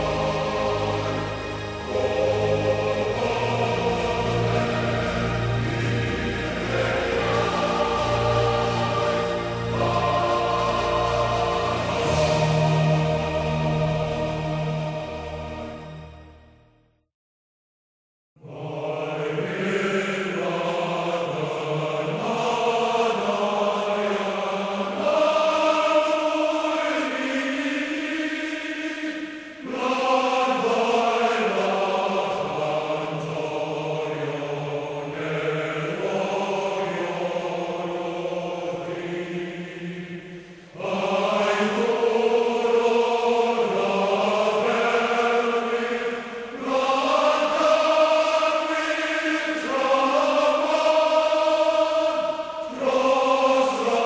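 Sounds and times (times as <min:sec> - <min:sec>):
choir singing: 0:00.0 - 0:16.6, 0:18.4 - 0:54.0.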